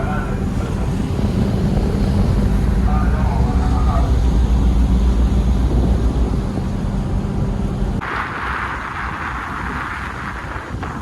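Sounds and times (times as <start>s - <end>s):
boat diesel engine droning: 0.0s - 9.0s
rushing wind and water: 0.0s - 11.0s.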